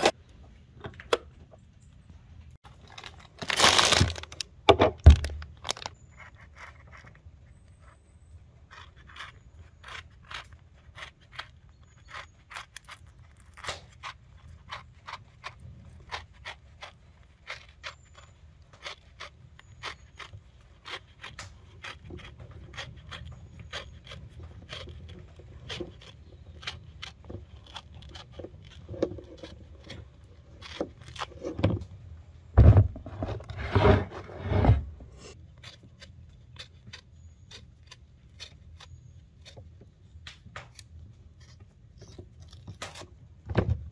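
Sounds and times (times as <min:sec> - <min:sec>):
grapefruit rind snapping and scraping: 0:02.7 - 0:32.0, 0:35.2 - 0:43.3.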